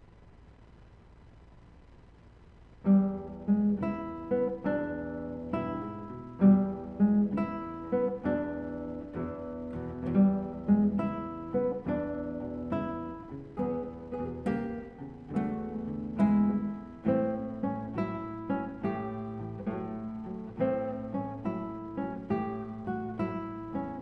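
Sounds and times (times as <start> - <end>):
nylon-string guitar blues: 2.8 - 24.0.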